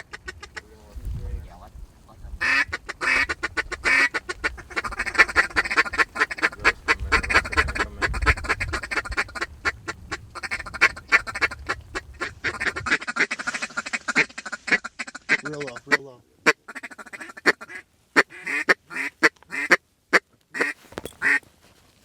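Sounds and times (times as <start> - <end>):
duck calls quacking: 0.0 - 1.0, 2.3 - 21.4.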